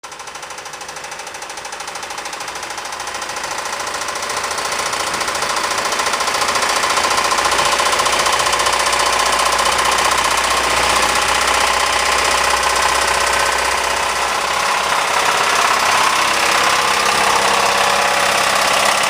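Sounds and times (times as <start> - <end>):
engine with rapid rod knock: 0.0 - 19.0.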